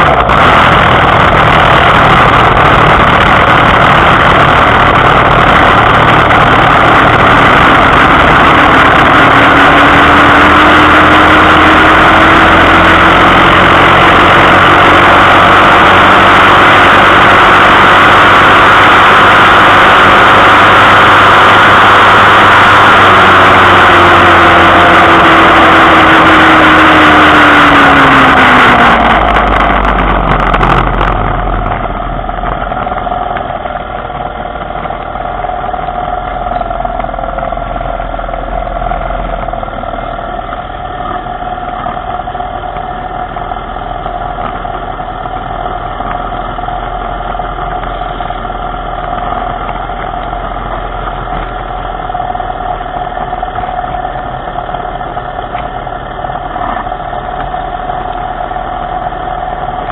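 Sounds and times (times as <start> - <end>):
small engine idling: 0.0 - 59.9.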